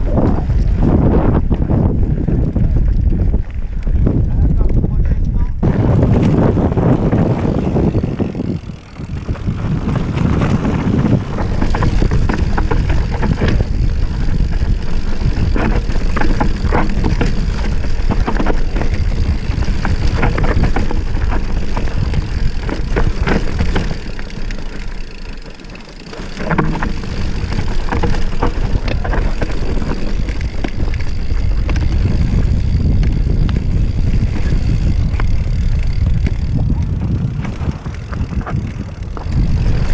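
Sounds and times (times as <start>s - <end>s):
wind rushing on microphone: 0.0s - 25.0s, 26.3s - 39.9s
bike knocks and rattles: 0.0s - 39.9s
bike tyre noise: 0.0s - 39.9s.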